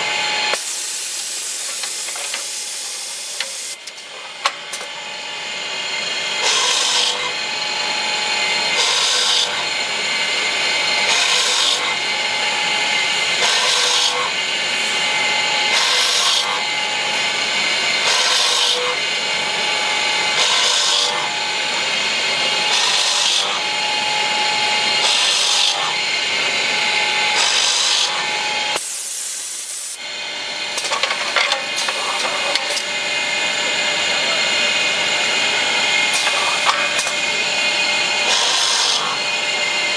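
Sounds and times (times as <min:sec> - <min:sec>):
motor whine: 0:00.0 - 0:28.8, 0:30.0 - 0:39.9
drill grinding hiss: 0:00.0 - 0:30.0, 0:30.6 - 0:39.9.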